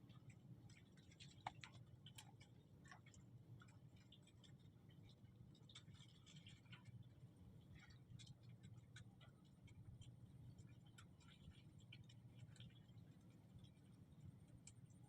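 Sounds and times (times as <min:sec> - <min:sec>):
faint ticking and clicking: 0:00.0 - 0:15.0.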